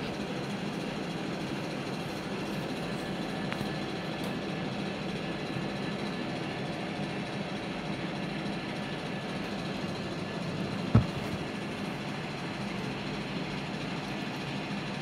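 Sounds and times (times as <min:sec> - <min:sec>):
low machine hum with hiss: 0:00.0 - 0:15.0.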